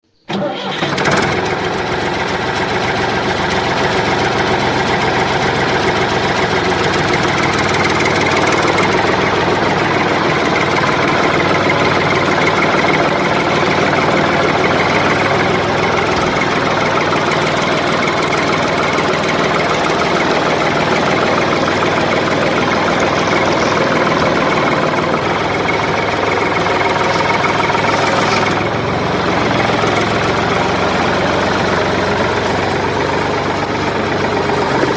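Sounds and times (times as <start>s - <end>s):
engine running steadily: 0.3s - 34.9s.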